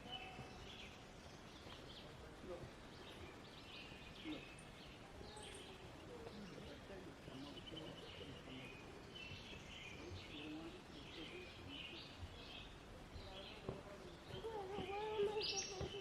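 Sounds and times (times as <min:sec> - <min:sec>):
birds chirping and twittering: 0:00.0 - 0:16.0
faint steady hiss: 0:00.0 - 0:16.0.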